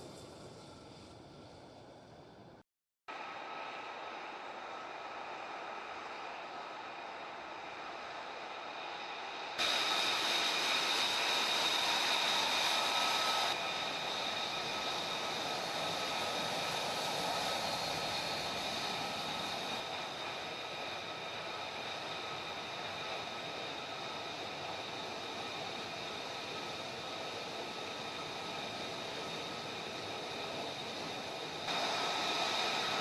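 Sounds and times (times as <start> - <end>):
jet engine rushing and whining: 3.1 - 33.0.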